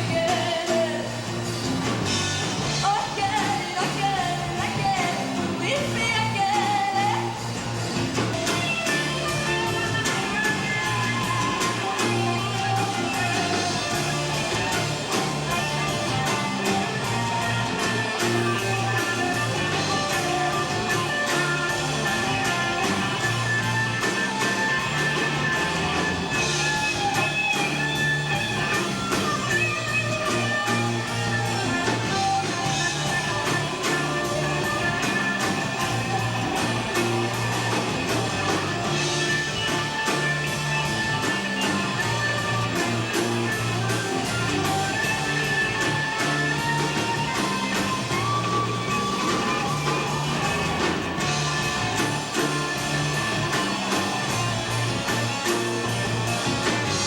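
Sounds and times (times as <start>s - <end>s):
bass line: 0.0s - 57.0s
guitars: 0.0s - 57.0s
live rock band playing: 0.0s - 57.0s
steady drumbeat: 0.0s - 57.0s.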